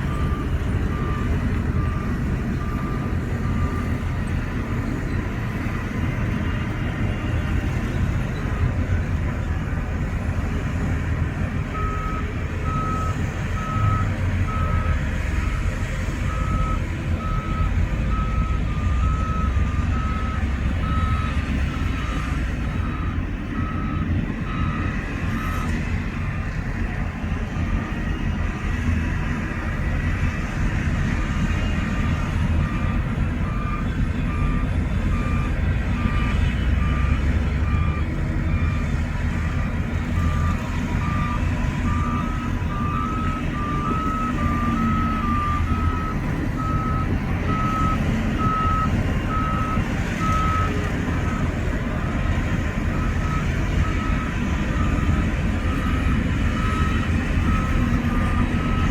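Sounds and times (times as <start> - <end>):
reversing alarm beeps: 0.0 - 9.3, 11.6 - 26.9, 31.4 - 58.9
diesel machinery rumble: 0.0 - 58.9.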